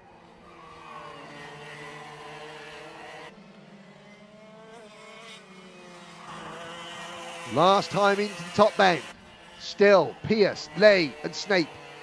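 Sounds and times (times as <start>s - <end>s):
kart engines at high revs: 0.0s - 12.0s.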